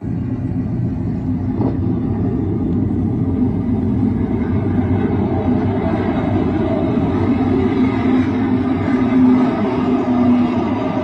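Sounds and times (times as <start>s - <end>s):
jet aircraft rumble on television: 0.0s - 11.0s.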